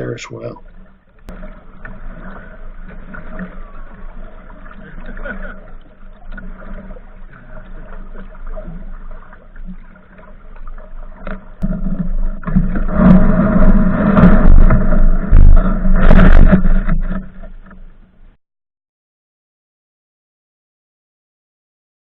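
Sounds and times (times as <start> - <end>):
low rumbling: 0.0 - 18.4
river water noise: 0.0 - 18.4.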